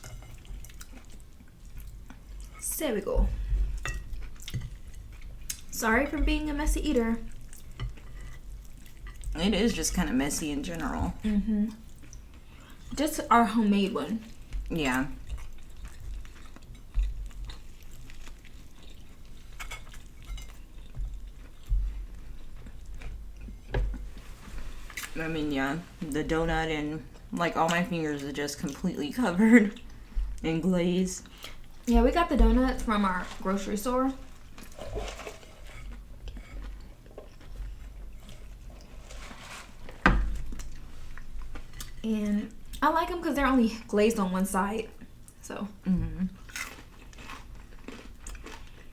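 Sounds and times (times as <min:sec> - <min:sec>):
faint eating noises: 0:00.0 - 0:48.9.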